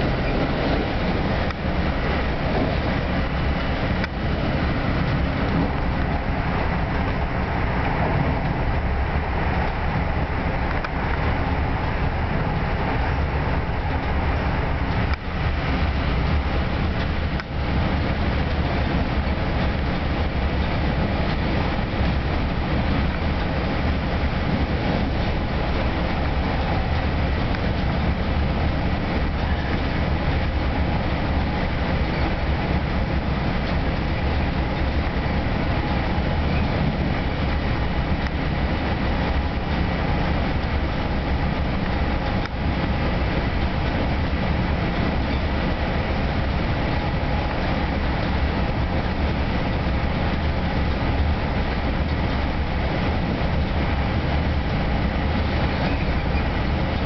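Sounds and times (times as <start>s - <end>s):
low rumble: 0.0s - 57.0s
train wheels on rails: 0.0s - 57.0s.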